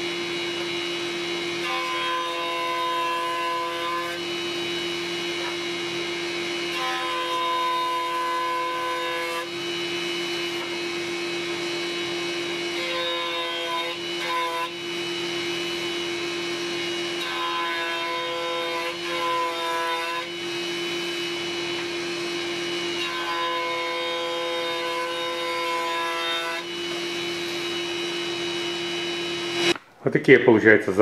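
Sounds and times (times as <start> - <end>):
jointer motor humming: 0.0 - 29.8
wooden board being cut: 0.0 - 29.8.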